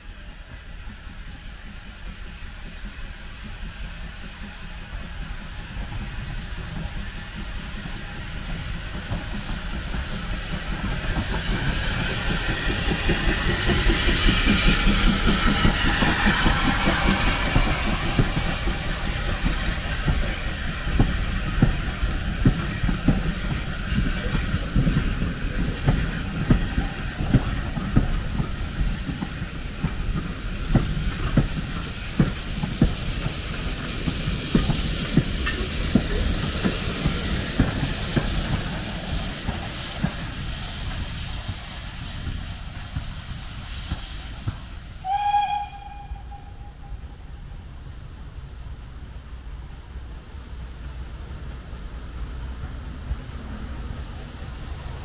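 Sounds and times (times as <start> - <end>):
steam hissing: 0.0 - 55.0
steam train rumbling: 0.0 - 55.0.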